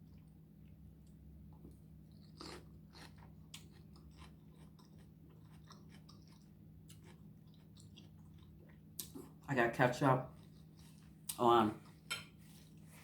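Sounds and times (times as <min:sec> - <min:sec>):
person chewing salad: 0:00.0 - 0:09.5, 0:10.2 - 0:13.0
steady low hum: 0:00.0 - 0:13.0.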